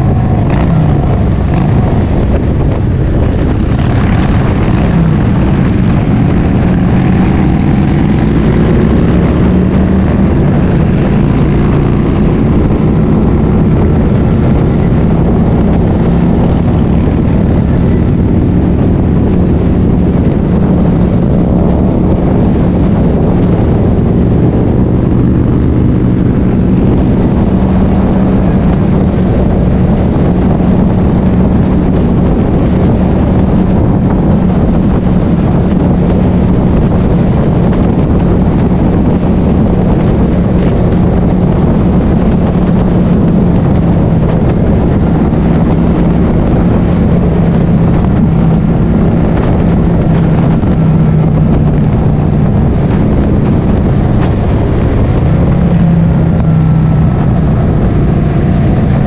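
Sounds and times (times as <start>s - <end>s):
motorcycle engine drone: 0.0s - 59.0s
wind rushing over microphone: 0.0s - 59.0s.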